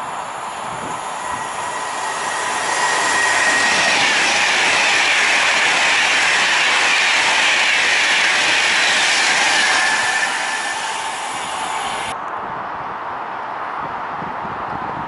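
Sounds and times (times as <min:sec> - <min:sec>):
high whine dropping in pitch: 0:00.0 - 0:12.1
electric train passing at speed: 0:00.0 - 0:14.7
rush of wheel and air noise: 0:00.0 - 0:15.0.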